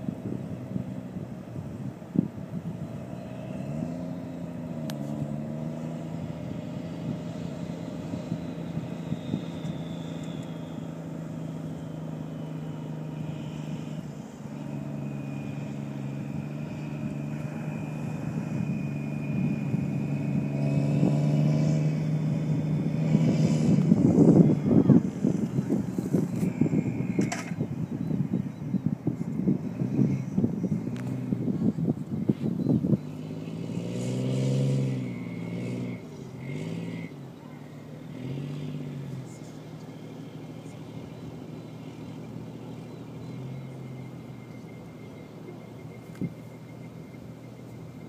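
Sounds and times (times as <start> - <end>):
vehicle engine droning: 0.0 - 48.0.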